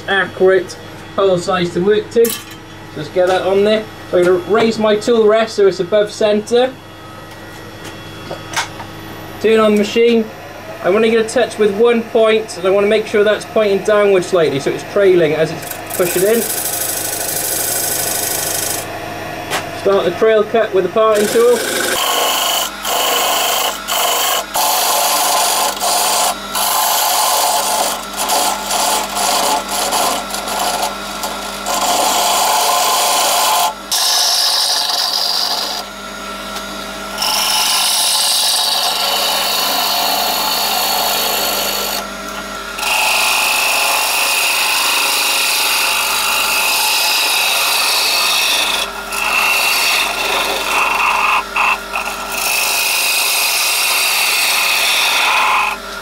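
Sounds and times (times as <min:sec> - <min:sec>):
steady low hum: 0:00.0 - 0:46.7
lathe tool cutting wood: 0:10.9 - 0:56.0.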